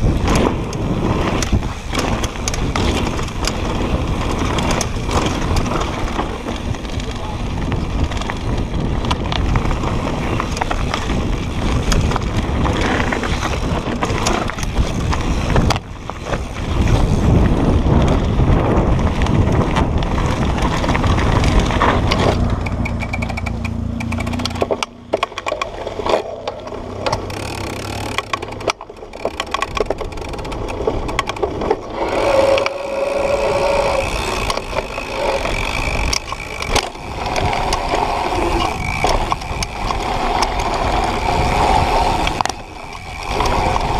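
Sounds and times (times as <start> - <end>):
bike rattling over bumps: 0.0 - 43.9.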